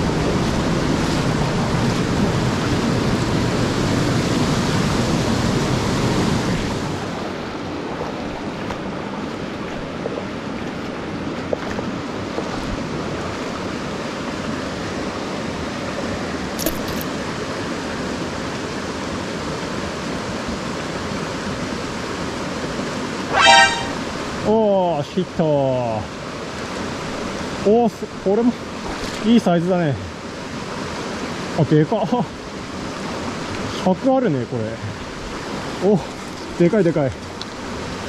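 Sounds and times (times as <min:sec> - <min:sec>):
stream rushing over rocks: 0:00.0 - 0:38.0.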